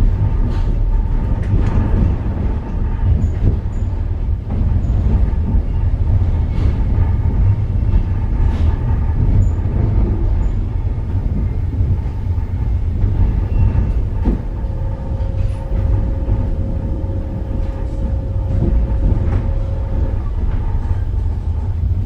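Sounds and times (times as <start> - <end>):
steady whine: 0.0 - 22.0
train wheels rumbling on track: 0.0 - 22.0.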